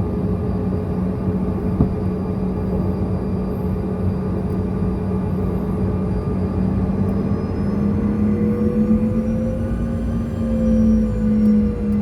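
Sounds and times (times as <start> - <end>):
jet engines droning in cabin: 0.0 - 12.0.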